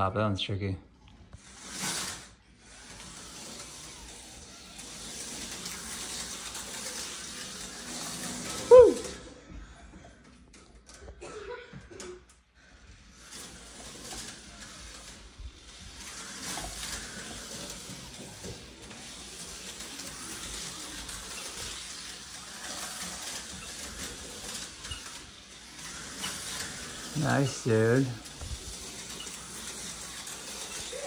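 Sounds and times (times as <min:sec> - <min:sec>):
slot car whirring buzz: 0:01.3 - 0:09.4, 0:13.0 - 0:31.0.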